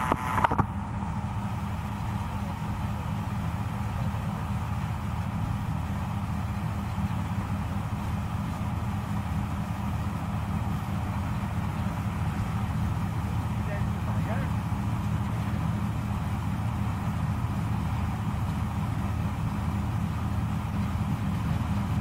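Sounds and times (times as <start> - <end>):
combine harvester drone: 0.0 - 22.0.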